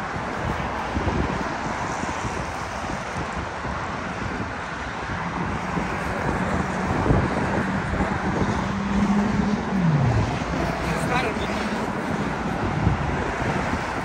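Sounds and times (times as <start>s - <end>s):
passing cars rushing: 0.0s - 14.0s.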